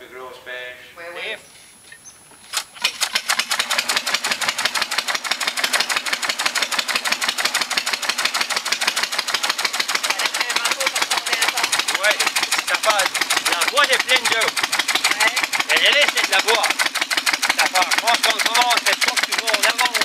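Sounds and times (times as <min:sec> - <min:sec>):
single-cylinder engine running: 0:02.5 - 0:20.0.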